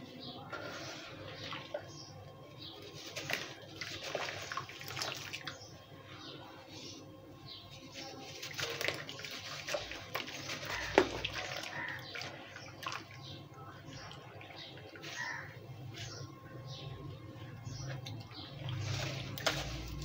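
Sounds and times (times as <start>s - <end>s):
water splashing and sloshing: 0.4s - 6.7s, 7.6s - 20.0s.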